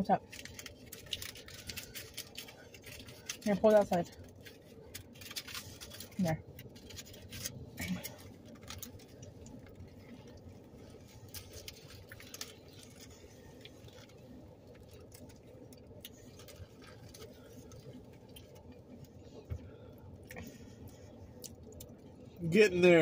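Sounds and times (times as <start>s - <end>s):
foil wrapper crinkling: 0.0s - 19.8s.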